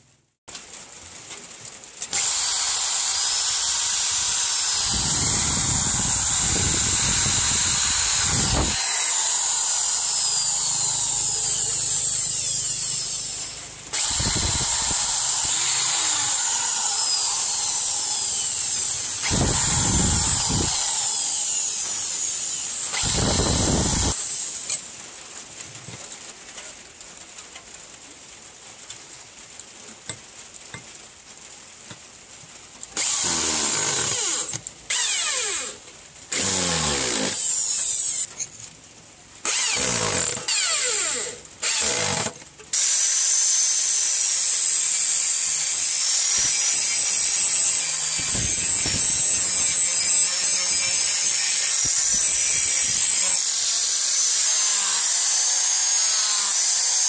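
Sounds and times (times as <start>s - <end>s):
electric drill boring wood: 2.0s - 24.8s, 33.0s - 38.5s, 39.4s - 57.0s.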